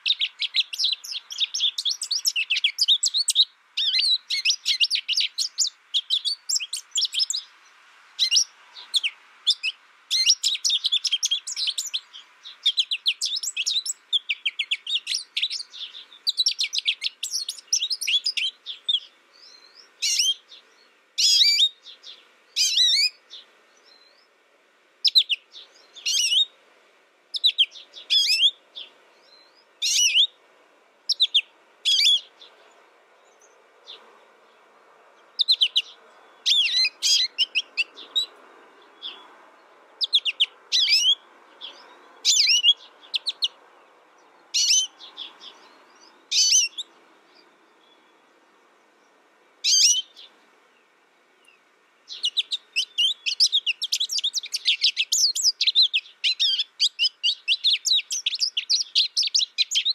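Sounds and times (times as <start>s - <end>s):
goldfinch twittering song: 0.0s - 7.5s, 8.1s - 24.3s, 25.0s - 26.6s, 27.3s - 30.4s, 31.1s - 32.6s, 35.3s - 39.3s, 40.0s - 43.6s, 44.4s - 48.2s, 49.6s - 50.3s, 51.4s - 59.9s.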